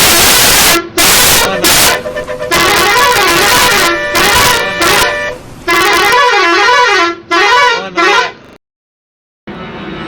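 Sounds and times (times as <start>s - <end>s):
musical vehicle horn tune: 0.0s - 8.6s.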